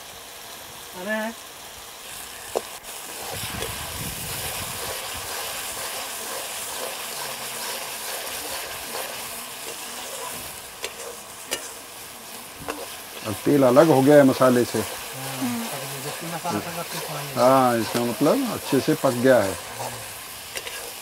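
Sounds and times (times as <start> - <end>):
masala sizzling in oil: 0.0 - 21.0
spatula scraping pan: 3.1 - 21.0.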